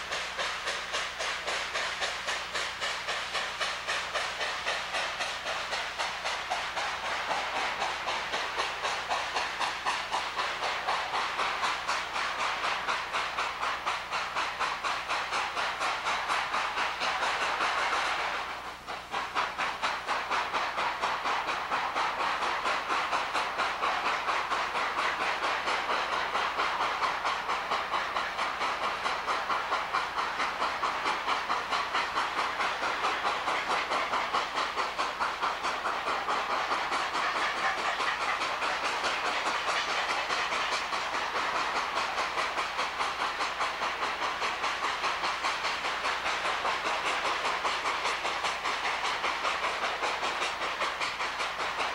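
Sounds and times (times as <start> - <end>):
steam hissing: 0.0 - 51.9
steam locomotive exhaust chuffing: 0.0 - 51.9.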